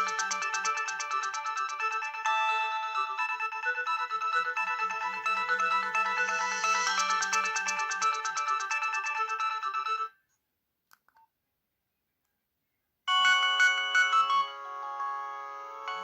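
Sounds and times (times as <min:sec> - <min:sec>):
phone ringtone melody: 0:00.0 - 0:10.1, 0:13.1 - 0:16.0.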